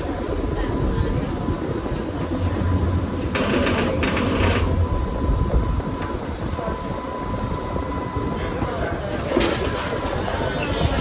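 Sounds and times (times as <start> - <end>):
streetcar rumbling on rails: 0.0 - 11.0.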